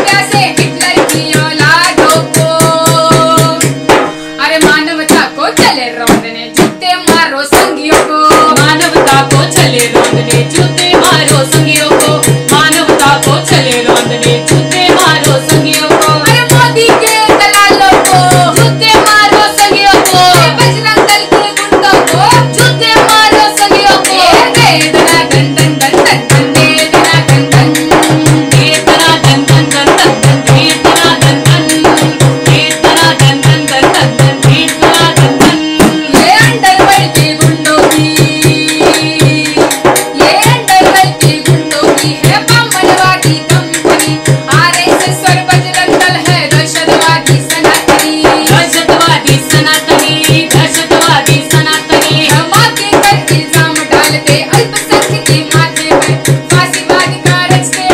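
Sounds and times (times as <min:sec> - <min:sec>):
hand drum beating: 0:00.0 - 0:57.9
harmonium: 0:00.0 - 0:57.9
women singing: 0:00.0 - 0:57.9.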